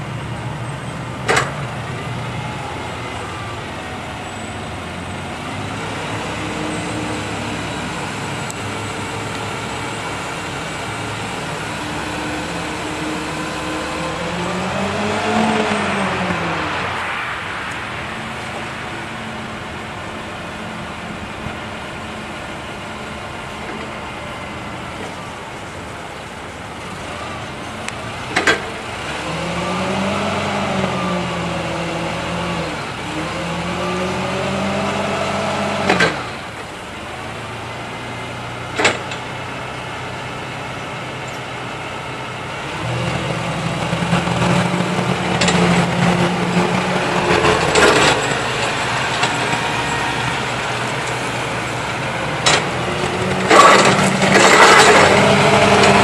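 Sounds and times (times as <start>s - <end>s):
forklift engine revving: 1.2s - 17.2s, 26.8s - 56.0s.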